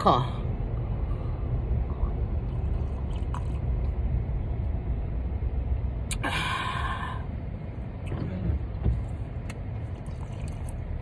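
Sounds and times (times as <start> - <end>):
car idling rumble: 0.0 - 11.0.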